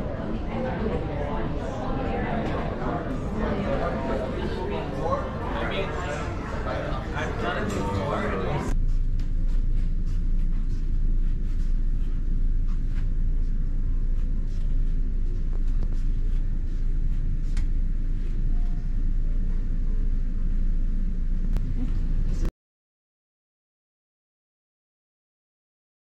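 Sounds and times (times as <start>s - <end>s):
loud low rumble: 0.0s - 22.5s.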